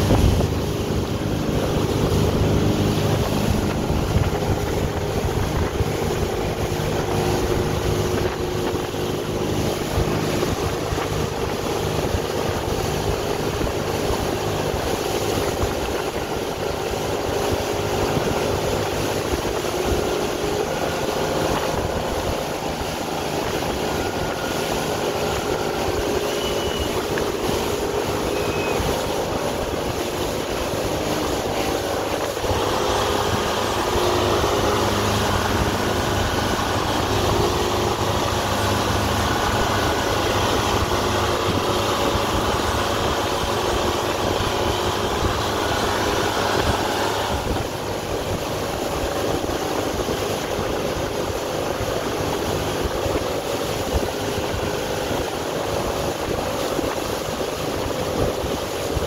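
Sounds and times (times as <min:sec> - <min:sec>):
motorboat engine running: 0:00.0 - 0:59.0
rush of boat wake: 0:00.0 - 0:59.0
wind buffeting microphone: 0:00.0 - 0:59.0.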